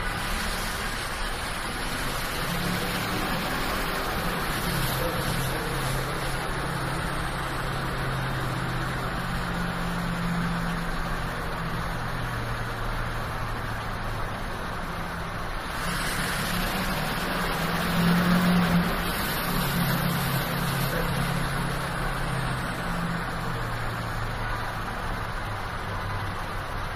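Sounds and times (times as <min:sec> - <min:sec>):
diesel engine droning under load: 0:00.0 - 0:26.9.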